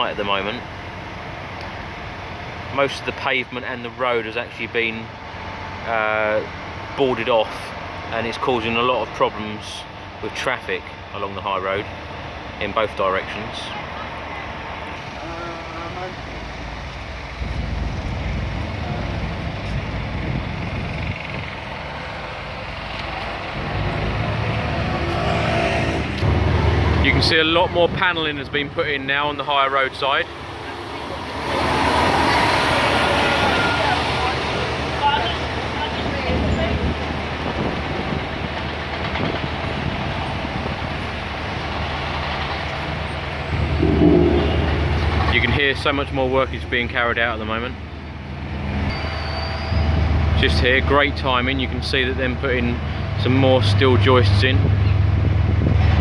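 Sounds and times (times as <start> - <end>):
engine rumble: 0.0 - 56.0
road traffic passing: 0.0 - 56.0.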